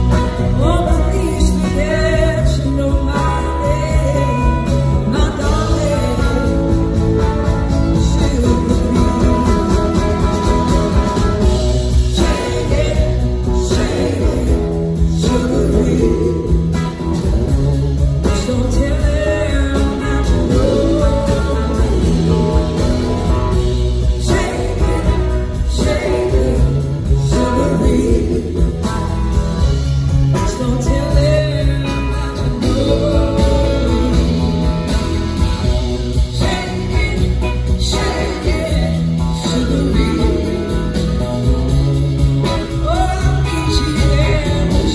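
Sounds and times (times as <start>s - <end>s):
person singing: 0.0s - 29.0s, 30.2s - 35.1s, 36.1s - 44.9s
live blues-rock band: 0.0s - 44.9s.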